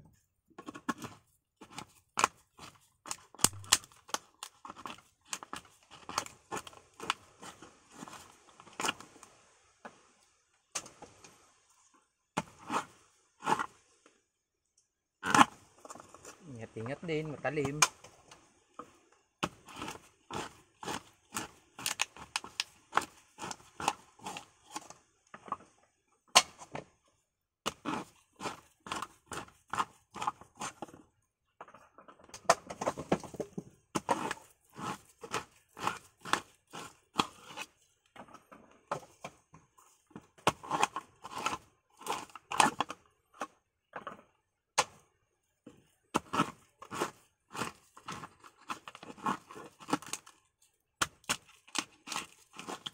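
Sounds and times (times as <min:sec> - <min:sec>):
tool cracking and scraping coconut: 0:00.6 - 0:09.3, 0:12.4 - 0:13.9, 0:15.2 - 0:26.9, 0:27.6 - 0:52.9.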